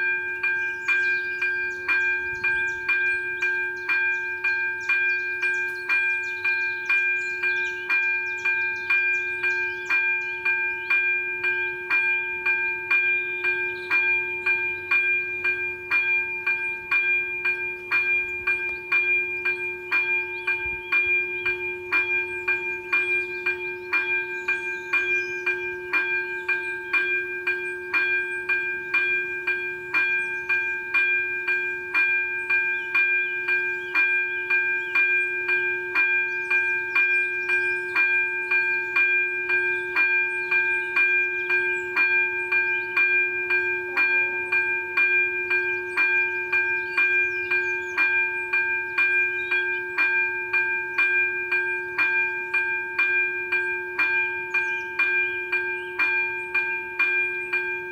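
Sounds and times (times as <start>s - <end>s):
level crossing warning bell: 0.0s - 57.9s.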